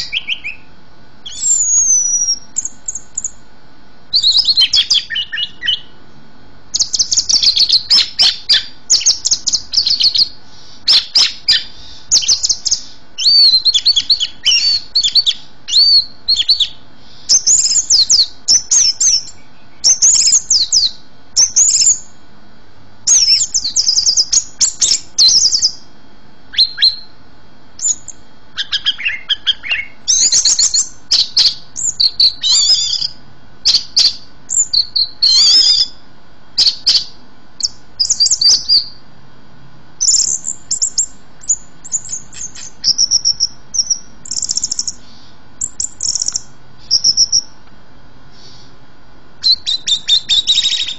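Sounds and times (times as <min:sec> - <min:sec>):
songbird chirping and trilling: 0:00.0 - 0:03.5, 0:04.1 - 0:06.0, 0:06.7 - 0:22.2, 0:23.0 - 0:27.2, 0:27.8 - 0:36.0, 0:36.6 - 0:39.0, 0:40.0 - 0:47.6, 0:49.4 - 0:50.9.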